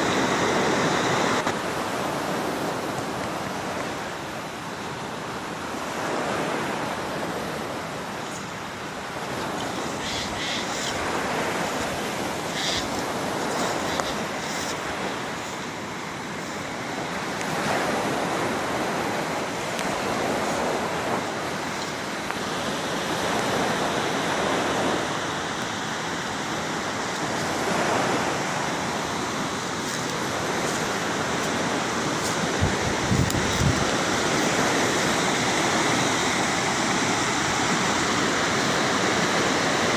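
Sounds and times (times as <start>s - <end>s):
waterfall roaring: 0.0s - 2.2s, 2.8s - 39.9s.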